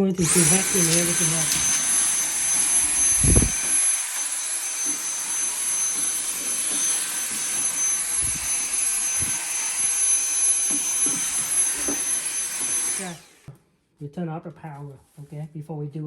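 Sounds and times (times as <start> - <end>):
vacuum cleaner running: 0.0 - 13.5.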